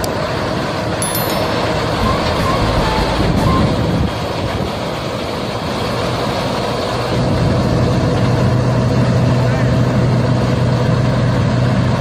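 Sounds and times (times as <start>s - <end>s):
threshing machinery noise: 0.0s - 12.0s
tractor engine: 0.0s - 12.0s.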